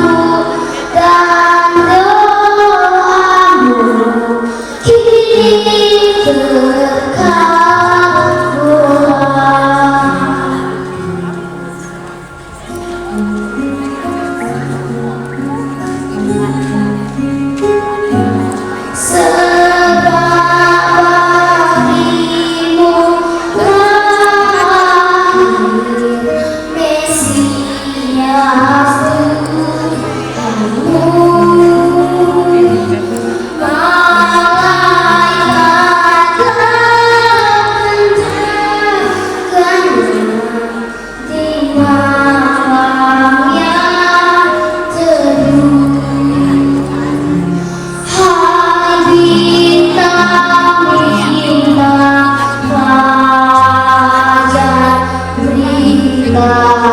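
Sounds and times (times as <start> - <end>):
child singing: 0.0 - 11.8, 17.6 - 56.9
instrumental accompaniment: 0.0 - 56.9.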